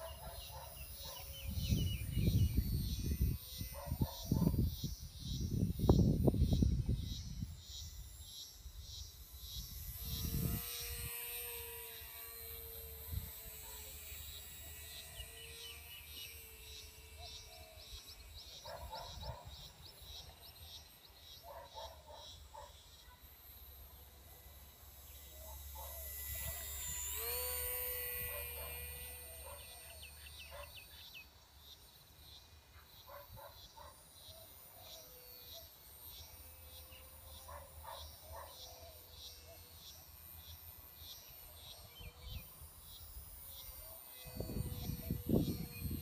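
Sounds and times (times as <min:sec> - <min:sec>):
model plane motor whining: 0:00.0 - 0:46.0.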